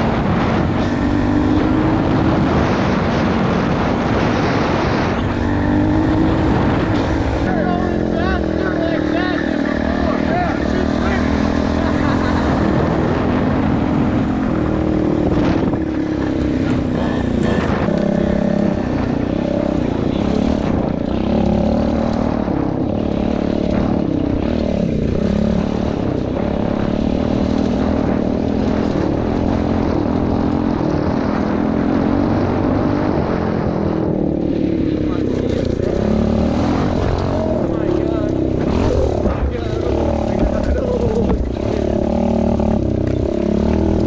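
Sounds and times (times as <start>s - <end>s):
pit bike engine buzzing: 0.0s - 44.0s.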